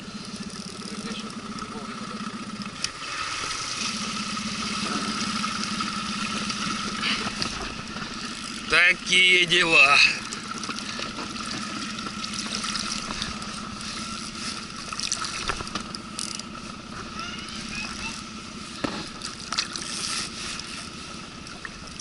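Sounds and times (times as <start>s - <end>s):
boat motor idling hum: 0.0s - 22.0s
fish splashing water: 2.8s - 8.7s, 10.0s - 22.0s.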